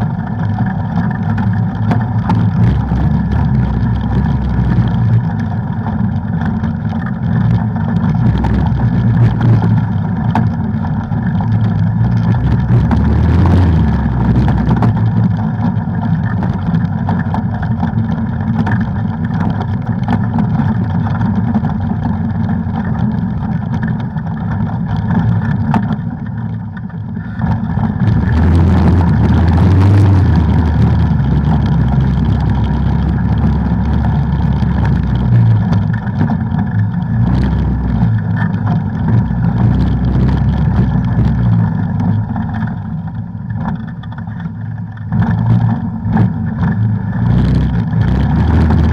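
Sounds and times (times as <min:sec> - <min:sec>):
atv engine running under load: 0:00.0 - 0:48.9.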